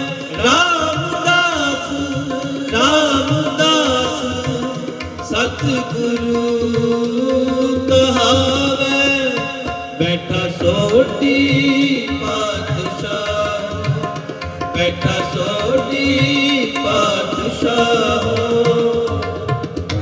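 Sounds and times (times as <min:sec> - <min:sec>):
harmonium: 0:00.0 - 0:20.0
men singing: 0:00.0 - 0:20.0
tabla drumming: 0:00.0 - 0:20.0.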